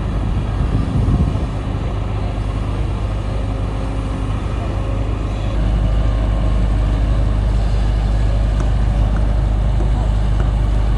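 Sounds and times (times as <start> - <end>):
diesel engine low rumble: 0.0 - 10.9.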